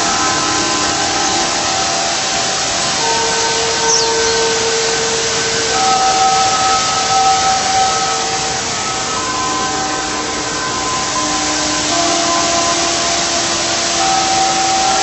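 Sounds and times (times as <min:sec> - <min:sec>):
faint sustained tones: 0:00.0 - 0:15.0
waterfall rushing: 0:00.0 - 0:15.0.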